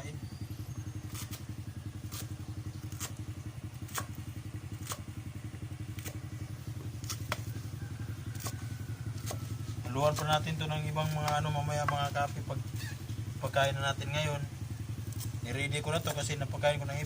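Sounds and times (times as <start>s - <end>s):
small engine throbbing: 0.0s - 17.0s.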